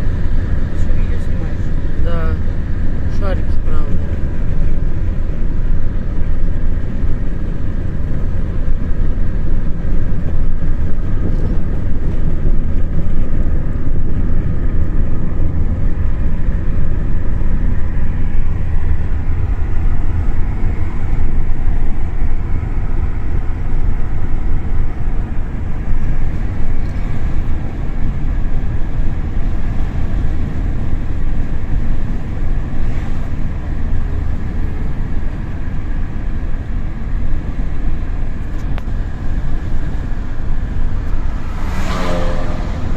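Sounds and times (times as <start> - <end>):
moving vehicle rumble: 0.0 - 42.9.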